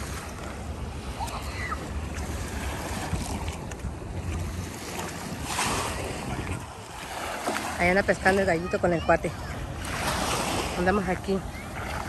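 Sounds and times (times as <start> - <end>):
outdoor noise rush: 0.0 - 12.0
wind buffeting microphone: 0.0 - 12.0.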